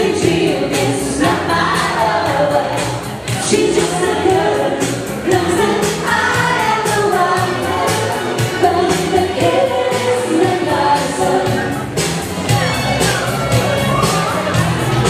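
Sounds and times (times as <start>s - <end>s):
dance music with singing: 0.0s - 15.0s.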